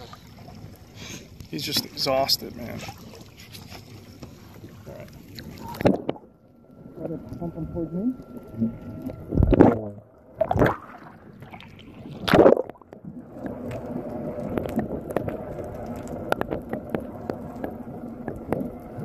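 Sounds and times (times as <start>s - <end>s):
muffled underwater rush: 0.0s - 19.0s
water sloshing and gurgling: 0.0s - 19.0s.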